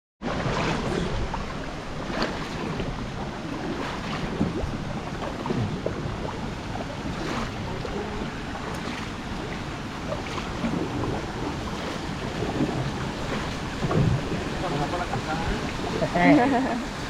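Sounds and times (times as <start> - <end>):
small splashes and knocks: 0.2 - 16.0
water rushing: 0.2 - 17.0
wind buffeting microphone: 0.7 - 17.0.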